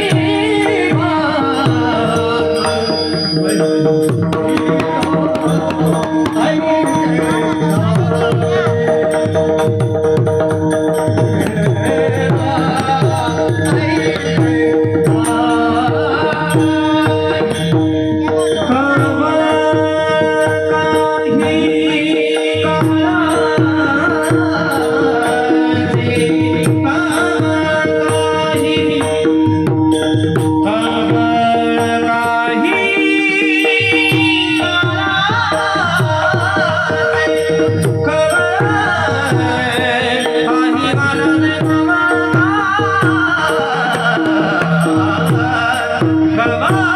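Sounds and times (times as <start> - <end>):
person singing: 0.0 - 9.8, 10.8 - 46.9.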